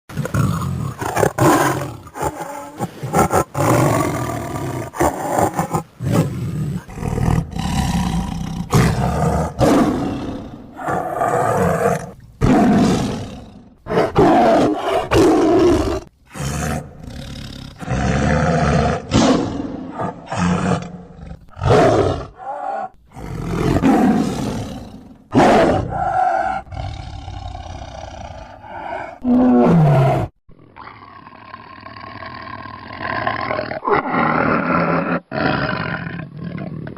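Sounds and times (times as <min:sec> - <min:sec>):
lioness roaring: 0:00.1 - 0:36.9.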